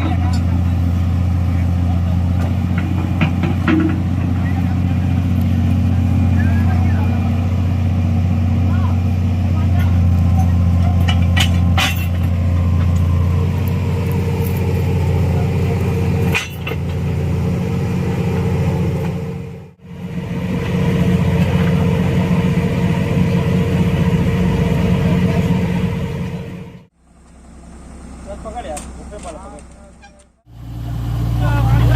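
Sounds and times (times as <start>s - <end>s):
excavator diesel engine humming: 0.0s - 31.9s.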